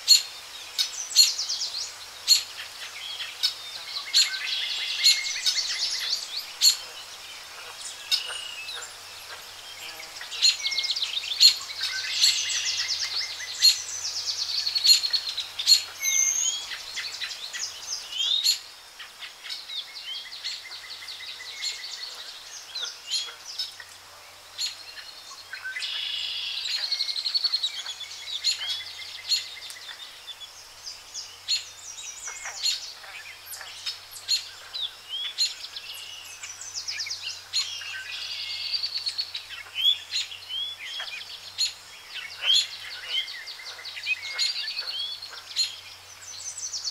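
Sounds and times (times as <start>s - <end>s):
birds chirping and trilling: 0.0s - 46.9s.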